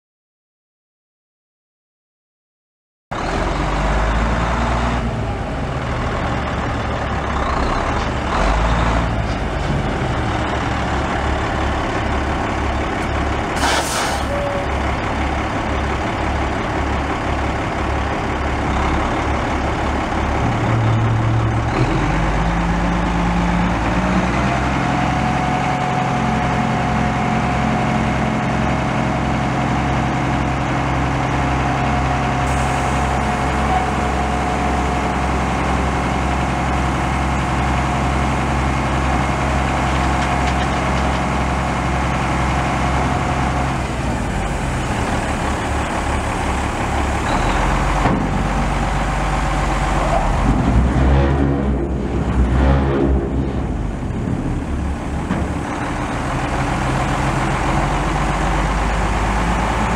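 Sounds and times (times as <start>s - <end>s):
diesel truck engine idling: 3.5s - 52.6s, 53.4s - 59.9s.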